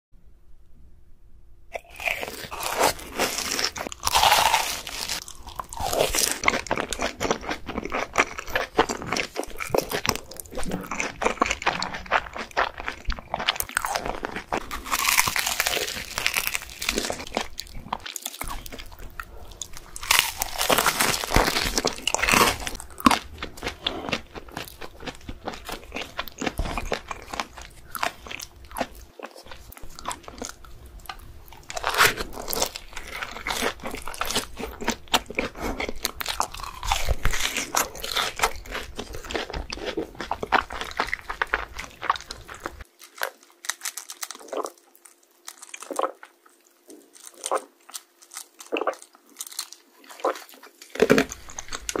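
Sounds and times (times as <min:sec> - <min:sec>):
crunchy fried chicken chewing: 0:01.7 - 0:52.0.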